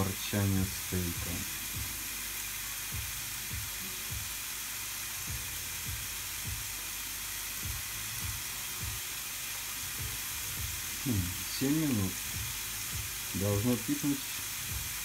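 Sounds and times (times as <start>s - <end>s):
background music: 0.0s - 15.0s
steak sizzling on grill: 0.0s - 15.0s.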